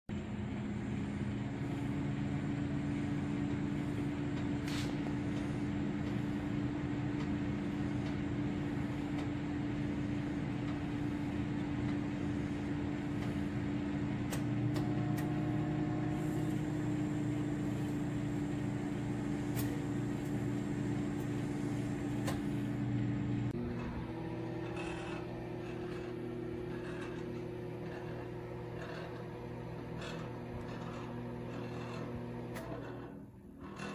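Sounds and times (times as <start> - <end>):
microwave oven humming: 0.1 - 33.9.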